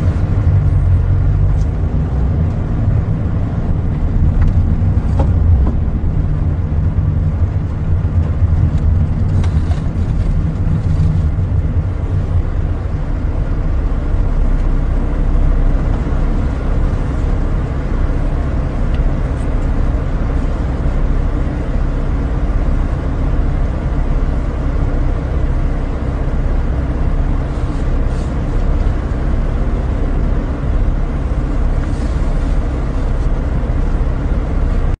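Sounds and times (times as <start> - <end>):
car interior road rumble: 0.0 - 35.0.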